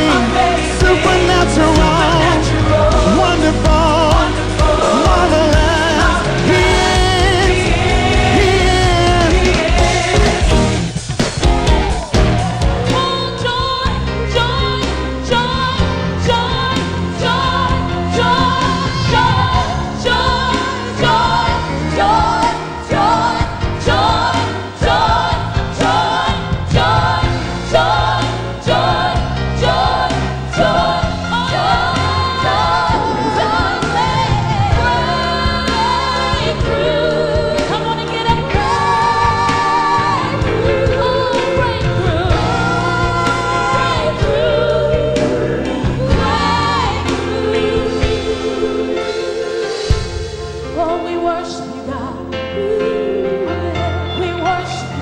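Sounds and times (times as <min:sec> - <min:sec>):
choir voices: 0:00.0 - 0:55.0
gospel singing over a band: 0:00.0 - 0:55.0.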